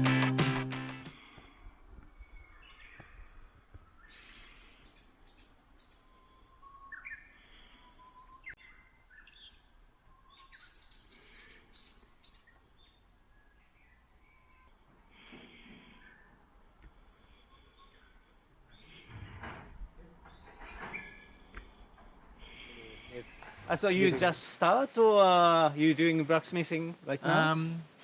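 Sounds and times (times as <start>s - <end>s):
birds chirping: 2.1s - 28.0s.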